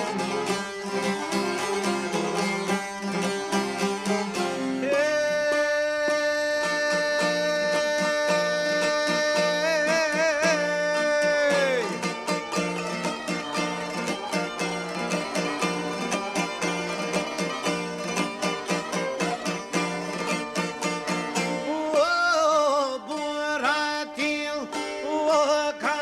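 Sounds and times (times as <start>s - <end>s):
folk ensemble playing: 0.0s - 26.0s
plucked string rhythm: 0.0s - 26.0s.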